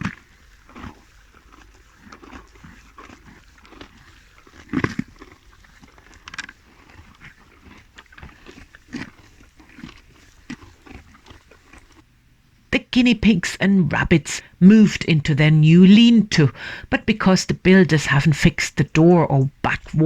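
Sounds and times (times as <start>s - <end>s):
donkeys munching and crunching: 0.0s - 20.0s.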